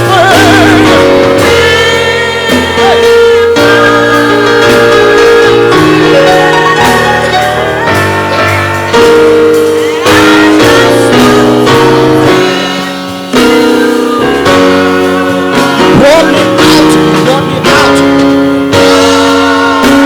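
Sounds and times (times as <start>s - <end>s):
church band playing worship music: 0.0s - 20.0s.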